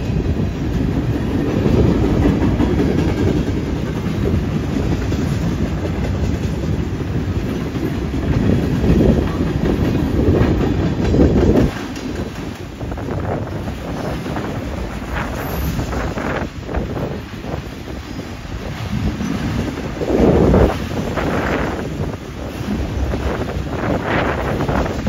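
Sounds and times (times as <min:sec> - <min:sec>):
freight train wheels clacking: 0:00.0 - 0:25.0.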